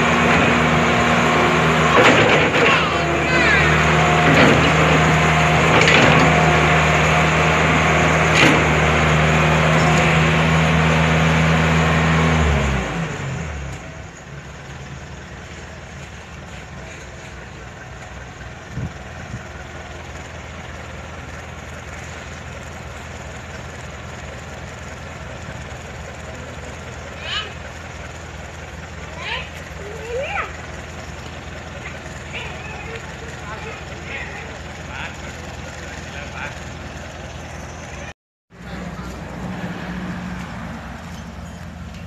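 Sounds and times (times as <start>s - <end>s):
diesel machinery engine running: 0.0s - 42.0s.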